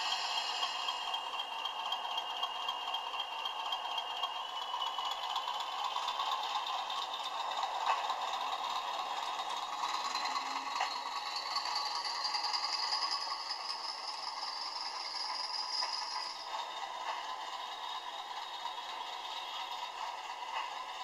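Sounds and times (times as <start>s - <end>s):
model diesel engine sound: 0.0s - 21.0s
wheels rattling on rails: 0.0s - 21.0s.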